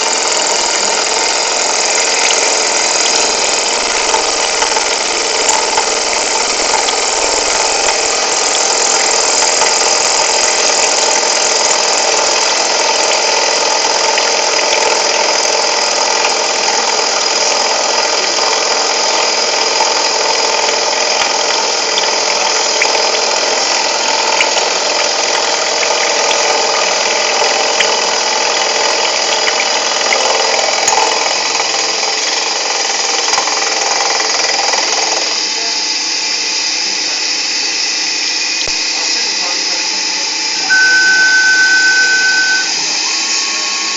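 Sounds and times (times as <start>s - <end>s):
cnc machine running: 0.0s - 43.9s.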